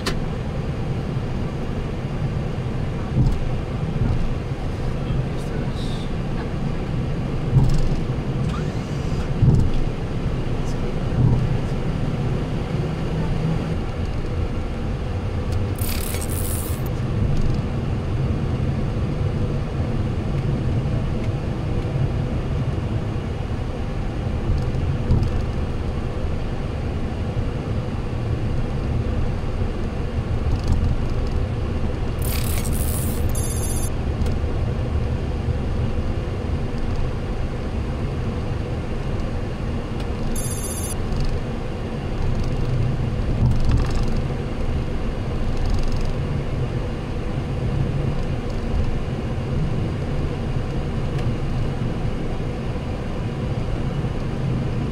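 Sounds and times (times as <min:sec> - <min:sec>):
aircraft cockpit rumble: 0:00.0 - 0:54.9.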